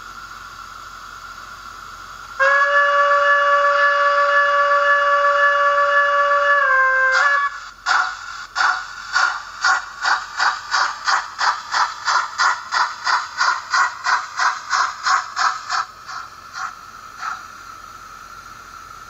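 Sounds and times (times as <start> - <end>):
steady hiss: 0.0 - 19.0
steam locomotive exhaust chuffs: 0.0 - 19.0.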